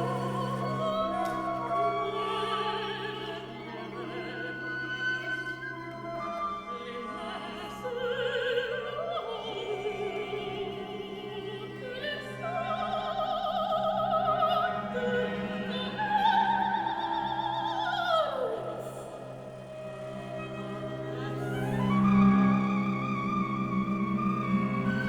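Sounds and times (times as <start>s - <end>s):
operatic voice singing with vibrato: 0.0s - 25.0s.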